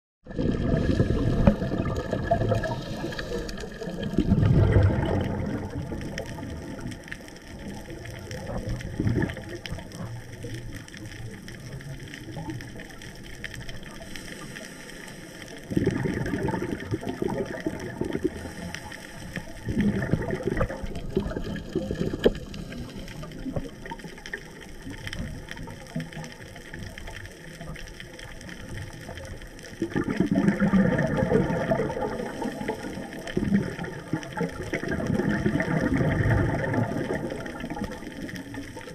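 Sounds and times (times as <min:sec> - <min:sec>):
muffled underwater water rushing: 0:00.2 - 0:38.9.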